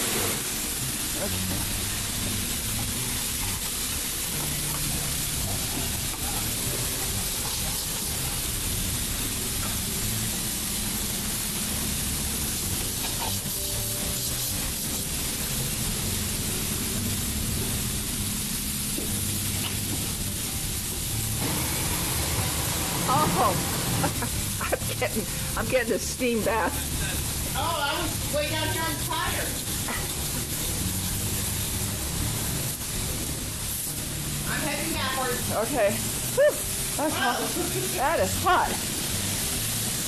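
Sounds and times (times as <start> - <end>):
high-pressure water spray hissing: 0.0 - 40.0
music: 0.0 - 40.0.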